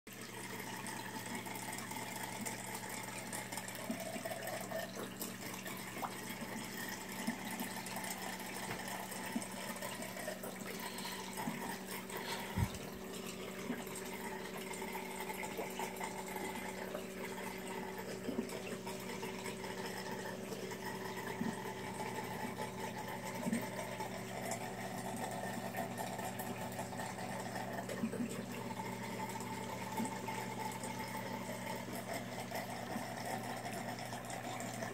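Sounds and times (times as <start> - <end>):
low pump hum: 0.1 - 34.9
trickling water: 0.1 - 34.9.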